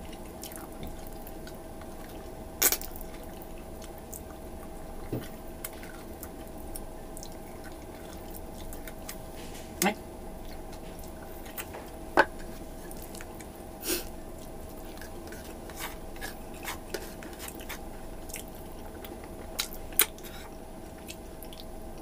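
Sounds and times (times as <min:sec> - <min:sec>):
faint steady hum: 0:00.0 - 0:22.0
person chewing: 0:00.0 - 0:22.0.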